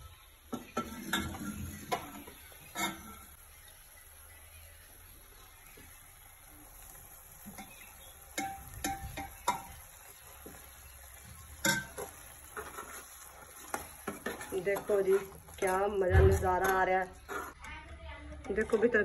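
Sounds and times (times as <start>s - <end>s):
low sizzle of frying: 0.0s - 19.0s.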